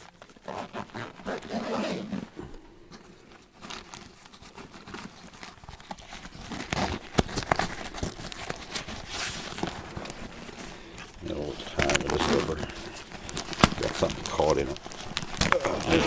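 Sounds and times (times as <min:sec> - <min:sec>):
medic pack rustling: 0:00.0 - 0:16.0.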